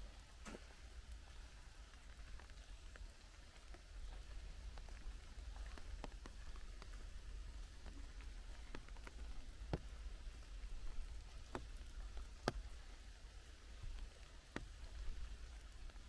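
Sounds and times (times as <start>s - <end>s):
rain hissing: 0.0s - 16.0s
single raindrops landing close: 0.0s - 16.0s.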